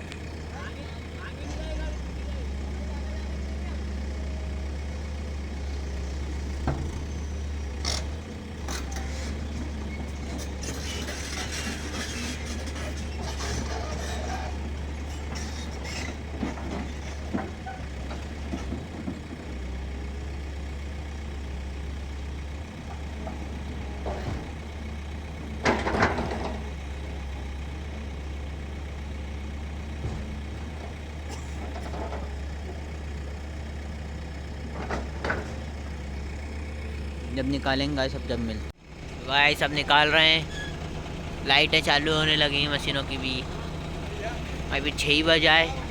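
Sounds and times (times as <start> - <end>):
heavy diesel machinery droning: 0.0 - 45.9.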